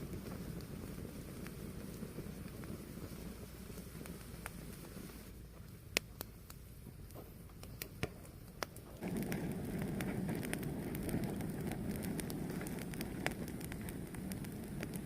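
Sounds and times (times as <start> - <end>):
fire crackling pops: 0.0 - 15.0
fire rumbling: 0.0 - 15.0.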